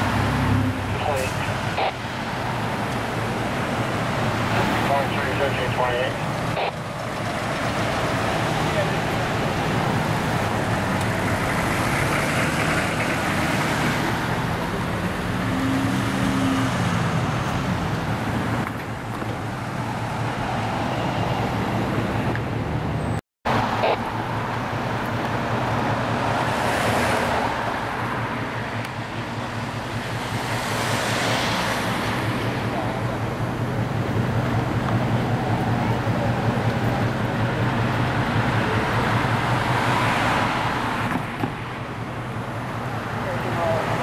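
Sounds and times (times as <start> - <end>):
cars passing close by: 0.0 - 44.0.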